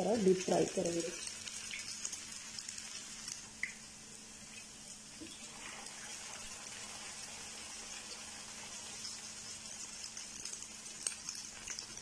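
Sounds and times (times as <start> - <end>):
potatoes deep-frying in oil: 0.0 - 12.0.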